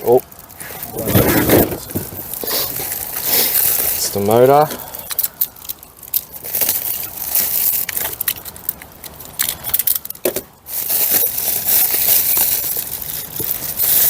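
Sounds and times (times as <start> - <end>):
packaging crinkling: 0.1 - 14.0.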